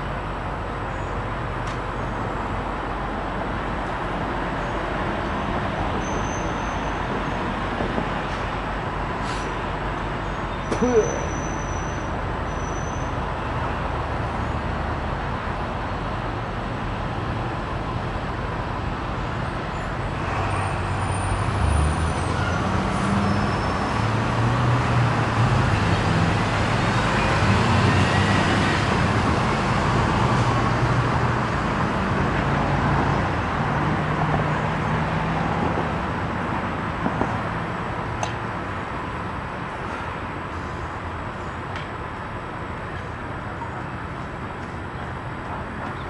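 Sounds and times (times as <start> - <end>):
road traffic: 0.0 - 46.0.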